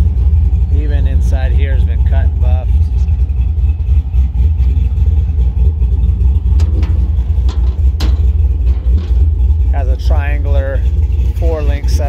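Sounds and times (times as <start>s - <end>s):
engine idling with exhaust rumble: 0.0s - 12.0s.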